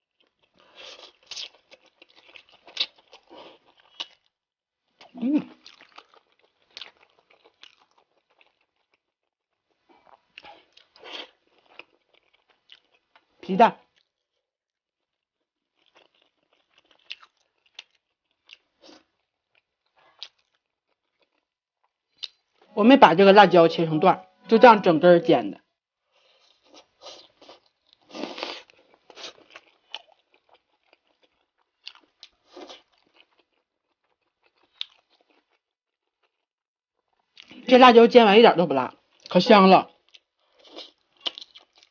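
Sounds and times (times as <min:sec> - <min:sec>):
person chewing food: 0:00.0 - 0:13.3, 0:13.9 - 0:22.7, 0:26.1 - 0:37.6, 0:40.0 - 0:41.9.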